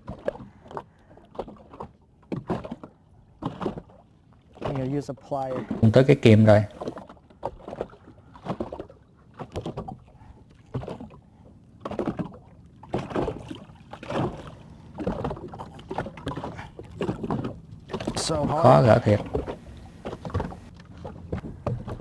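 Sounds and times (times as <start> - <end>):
water lapping against boat: 0.0 - 22.0.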